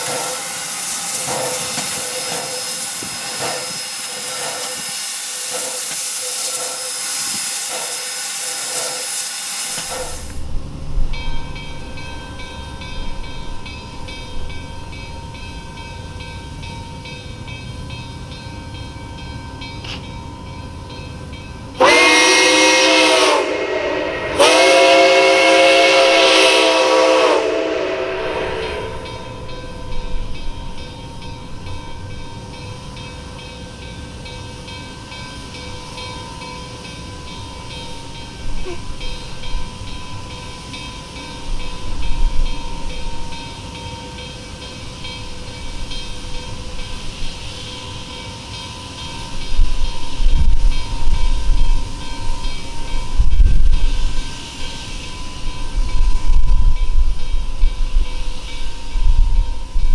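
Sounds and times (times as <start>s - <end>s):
heavy steam blasts: 0.0s - 15.6s, 21.7s - 59.9s
steady steam hiss: 0.0s - 59.9s
steam locomotive chime whistle: 0.0s - 59.9s.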